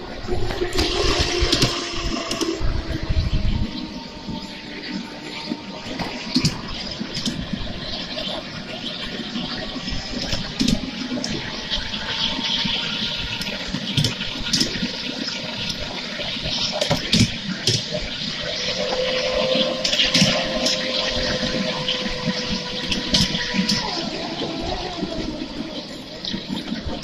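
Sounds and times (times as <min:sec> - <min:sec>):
wheels rumbling on rail: 0:00.0 - 0:27.0.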